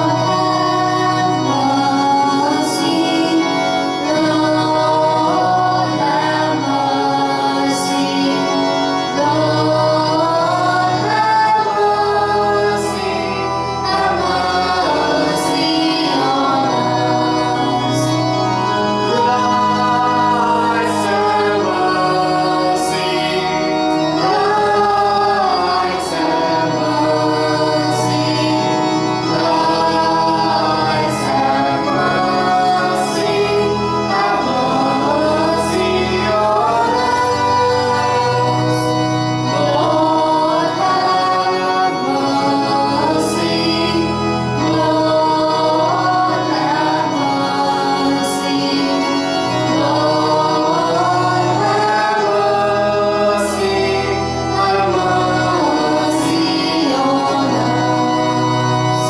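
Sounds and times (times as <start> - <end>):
choir singing a hymn: 0.0 - 59.0
instrumental accompaniment: 0.0 - 59.0.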